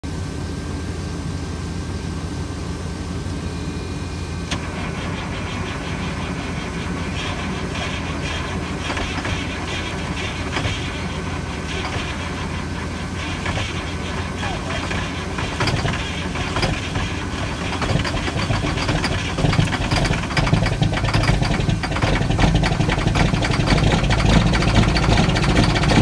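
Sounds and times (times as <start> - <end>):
diesel engine cranking: 4.4 - 26.0.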